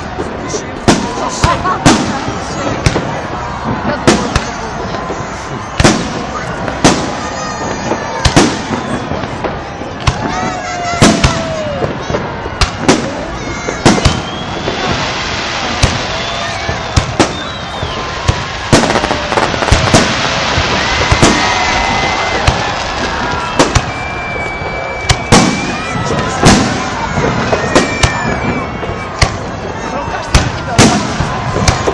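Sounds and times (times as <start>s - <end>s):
fireworks crackle: 0.0s - 31.9s.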